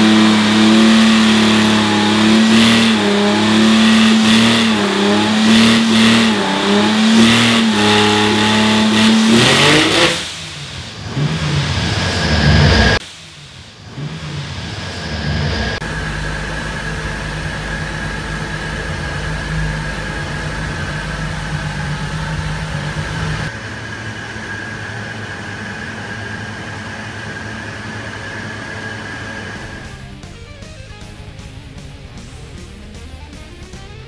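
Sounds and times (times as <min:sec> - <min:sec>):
machinery hum with high whine: 0:00.0 - 0:30.4.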